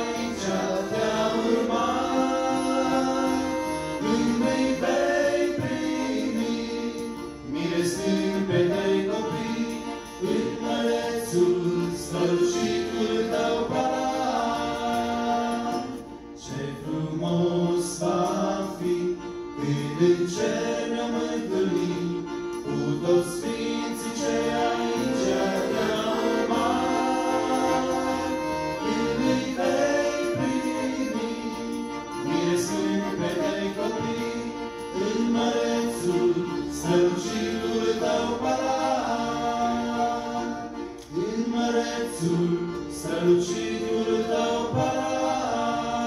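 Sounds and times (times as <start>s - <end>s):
accordion: 0.0s - 46.0s
men singing in harmony: 0.0s - 46.0s.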